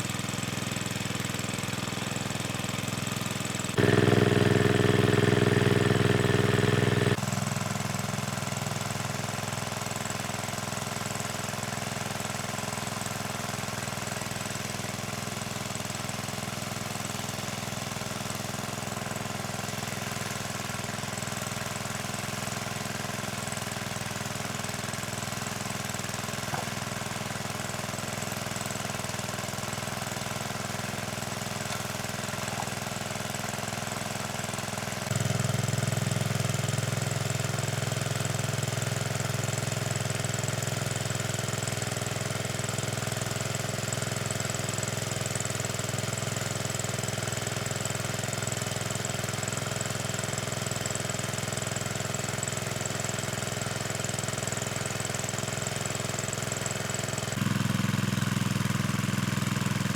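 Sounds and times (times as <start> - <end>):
small engine knocking hum: 0.0 - 59.9.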